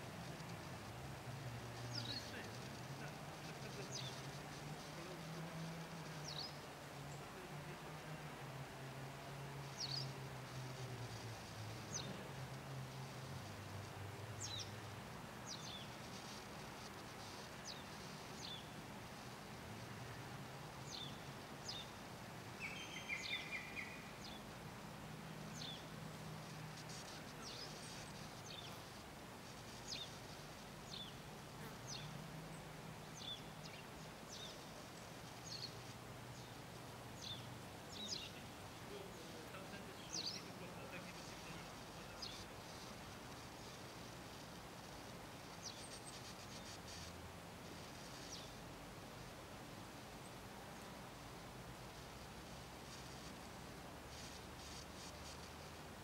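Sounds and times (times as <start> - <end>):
small birds chirping: 1.6 - 8.2, 9.6 - 13.5, 14.3 - 24.6, 25.4 - 56.0.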